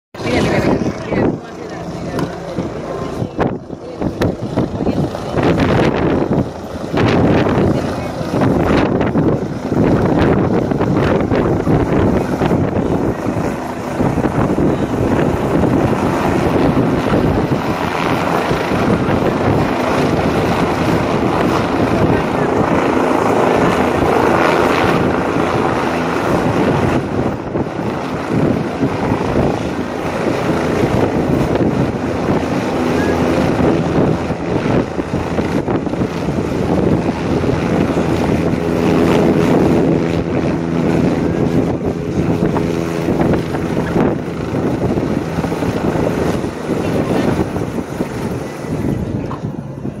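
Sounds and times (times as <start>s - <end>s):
distant helicopter rotor: 0.1s - 50.0s
wind noise on microphone: 0.2s - 50.0s.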